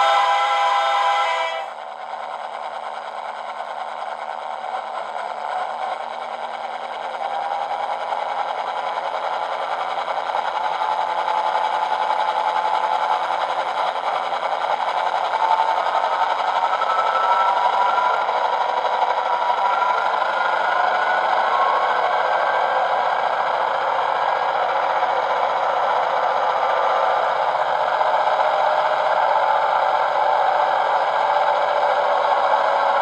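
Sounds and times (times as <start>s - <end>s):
diesel engine through small speaker: 0.0s - 2.2s, 3.8s - 33.0s.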